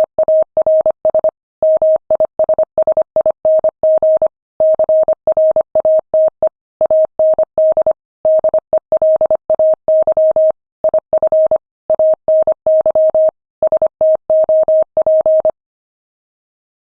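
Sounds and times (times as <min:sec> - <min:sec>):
morse code beeps: 0:00.0 - 0:15.6.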